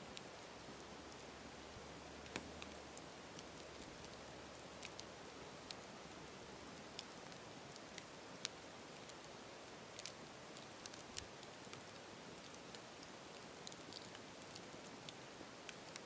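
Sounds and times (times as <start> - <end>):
campfire crackling and popping: 2.0 - 16.0.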